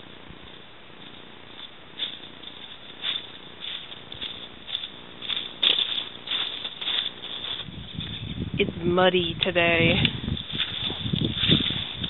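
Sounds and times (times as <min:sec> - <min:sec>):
footsteps crunching dry leaves: 0:00.0 - 0:08.5, 0:09.2 - 0:12.0.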